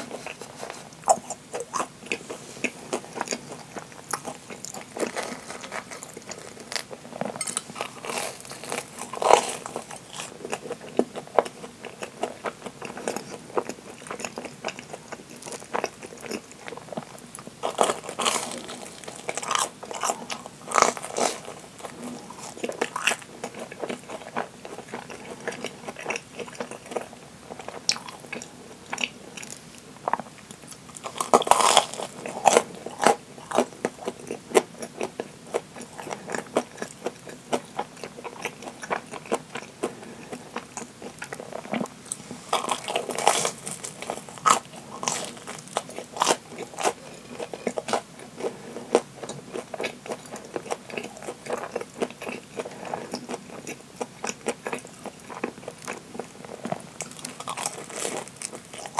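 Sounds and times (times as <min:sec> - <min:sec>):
chewing: 0:00.0 - 0:58.9
crispy crust crunching: 0:00.0 - 0:58.9.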